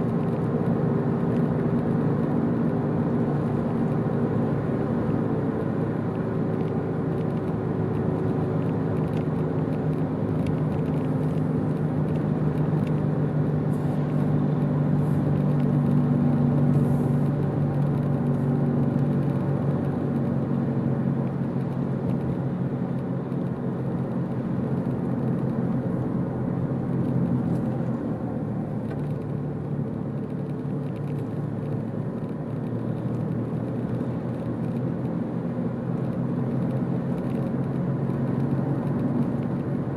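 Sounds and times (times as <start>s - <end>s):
car engine hum: 0.0s - 39.9s
tyre noise on paved road: 0.0s - 39.9s.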